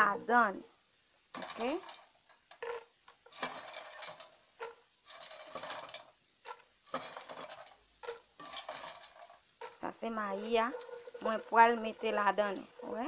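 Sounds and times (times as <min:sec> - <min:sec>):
popcorn rustling into pot: 0:01.3 - 0:13.0.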